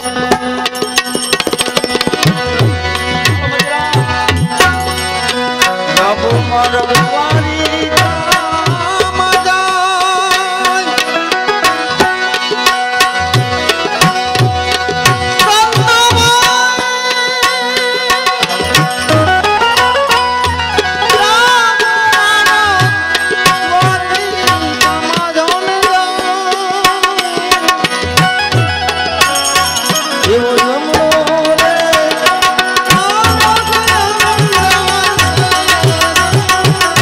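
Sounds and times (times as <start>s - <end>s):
held melodic accompaniment notes: 0.0s - 37.0s
tabla drum strokes: 0.0s - 37.0s.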